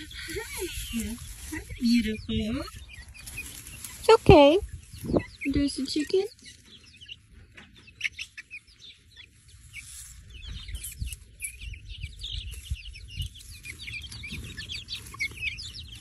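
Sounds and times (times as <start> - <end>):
chickens chirping and peeping: 0.0 - 16.0.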